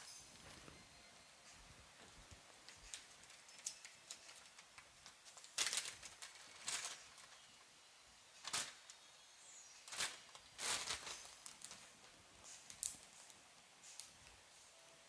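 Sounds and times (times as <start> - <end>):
faint rustles and clicks: 0.0 - 9.2, 9.8 - 14.6.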